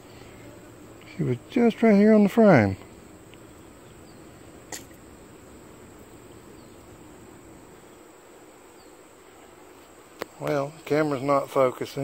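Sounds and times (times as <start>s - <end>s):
honey bees humming: 0.0s - 12.0s.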